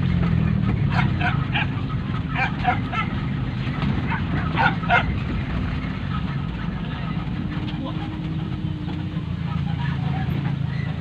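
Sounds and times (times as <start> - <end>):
car engine hum: 0.0 - 11.0
dogs barking and yelping: 0.0 - 11.0.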